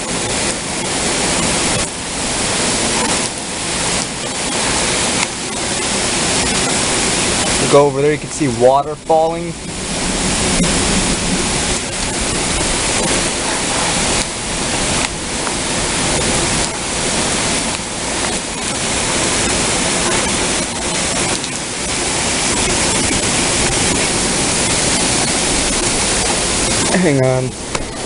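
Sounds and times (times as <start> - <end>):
heavy rain downpour: 0.0 - 28.0.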